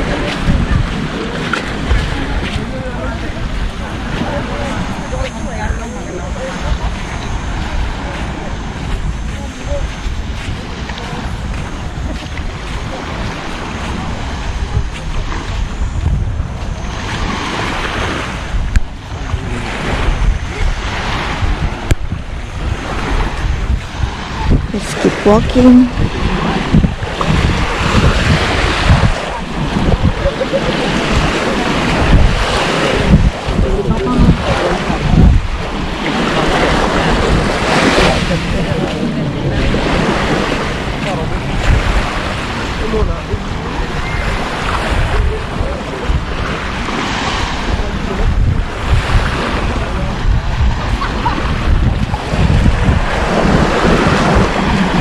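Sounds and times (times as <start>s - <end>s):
waves washing onto beach: 0.0s - 55.0s
wind buffeting microphone: 0.0s - 55.0s.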